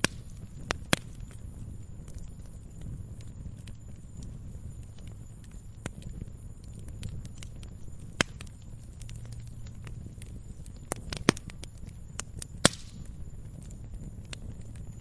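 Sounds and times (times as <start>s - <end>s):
campfire crackling: 0.0s - 15.0s
low rumble: 0.0s - 15.0s.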